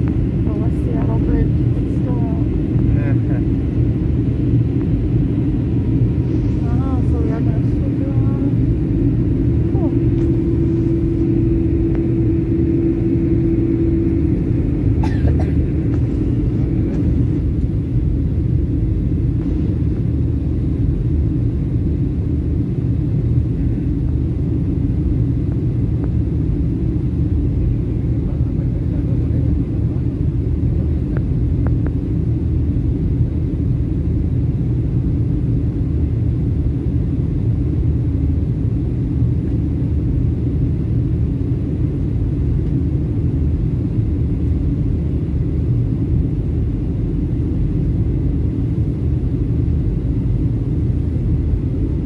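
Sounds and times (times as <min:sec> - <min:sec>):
aircraft cabin rumble: 0:00.0 - 0:52.0
steady hum: 0:00.0 - 0:52.0.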